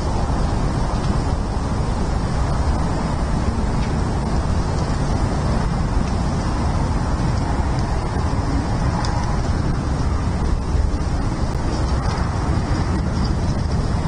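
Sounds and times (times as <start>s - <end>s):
distant road traffic: 0.0s - 14.0s
wind: 0.0s - 14.0s.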